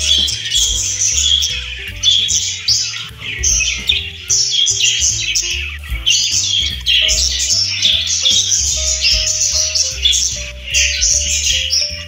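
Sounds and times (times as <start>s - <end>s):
background music with low notes: 0.0s - 12.0s
budgie chattering: 0.0s - 12.0s.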